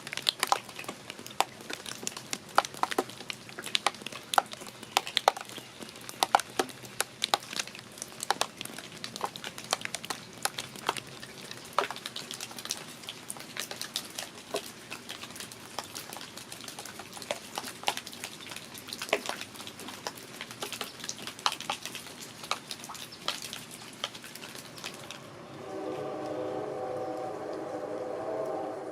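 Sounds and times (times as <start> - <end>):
raindrops ticking on hard surfaces: 0.0 - 25.2
soft rain hiss: 0.0 - 28.9.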